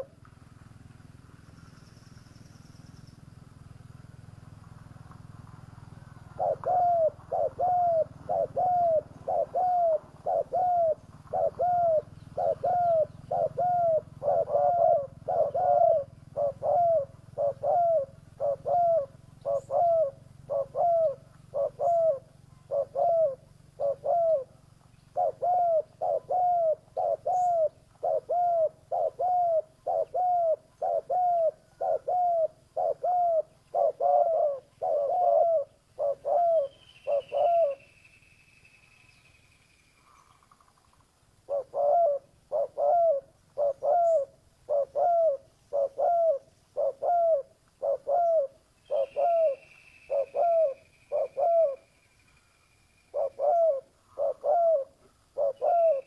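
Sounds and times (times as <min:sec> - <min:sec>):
dove cooing: 0:06.2 - 0:37.9, 0:41.4 - 0:51.9, 0:53.1 - 0:56.0.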